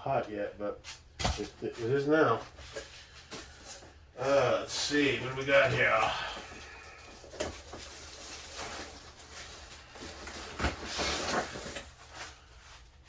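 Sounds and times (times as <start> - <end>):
packaging rustling: 2.4 - 13.0.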